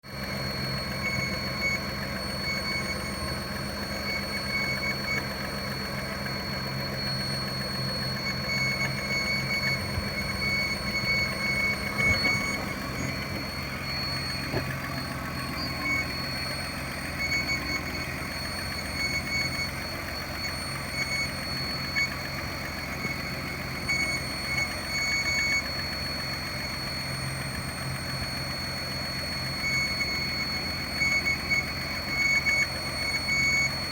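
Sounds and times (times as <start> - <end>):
car engine idling: 0.0 - 33.9
high whistle from engine: 0.0 - 33.9.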